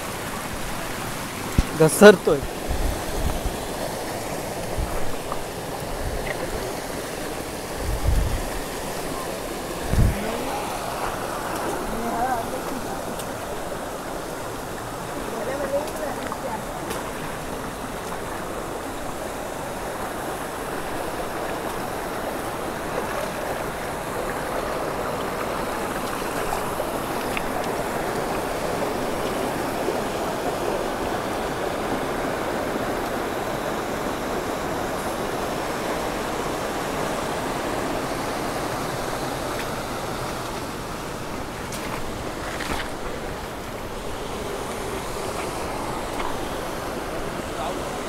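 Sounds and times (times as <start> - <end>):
stream rushing over stones: 0.0 - 48.0.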